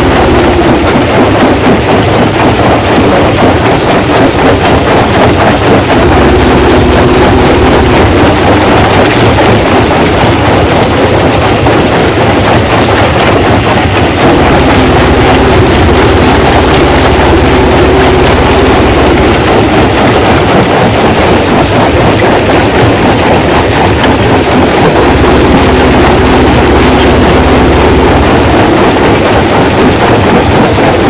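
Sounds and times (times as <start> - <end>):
rock crusher running: 0.0 - 31.0.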